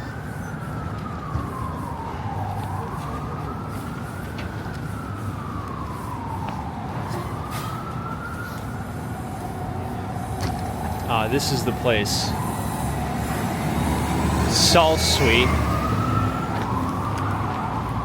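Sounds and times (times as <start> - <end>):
siren wailing: 0.0 - 18.0
street traffic rumble: 0.0 - 18.0.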